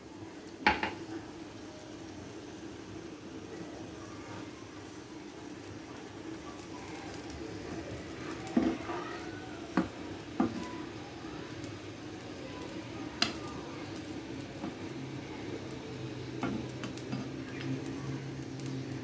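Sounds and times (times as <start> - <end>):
low simmer: 0.0 - 19.0.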